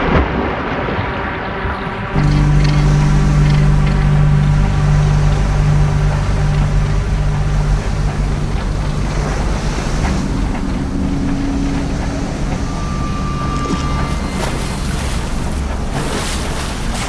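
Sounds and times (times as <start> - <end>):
wind: 0.0 - 17.0
music of low held notes: 2.2 - 17.0
surf: 2.2 - 17.0.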